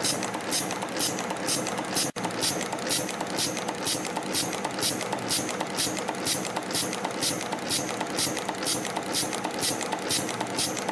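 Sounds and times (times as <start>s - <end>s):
forming machine running: 0.0s - 10.9s.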